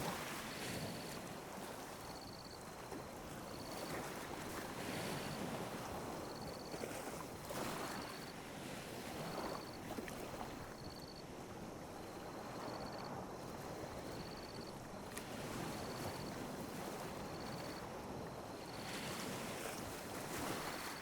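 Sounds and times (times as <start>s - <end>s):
small waves lapping on beach: 0.0s - 21.0s.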